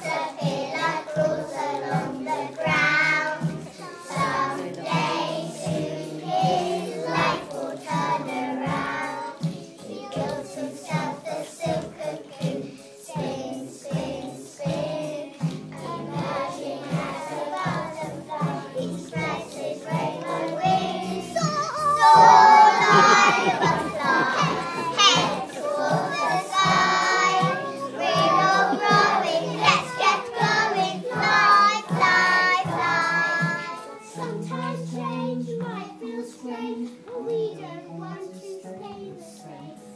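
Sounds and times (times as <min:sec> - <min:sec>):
music with steady beat: 0:00.0 - 0:37.5
children singing: 0:00.0 - 0:39.9.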